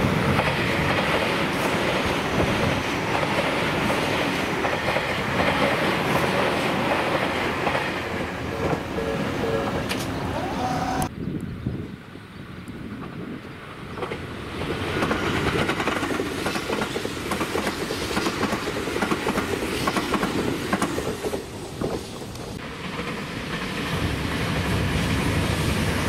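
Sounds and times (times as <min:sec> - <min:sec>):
electric train passing: 0:00.0 - 0:11.1, 0:12.1 - 0:26.0.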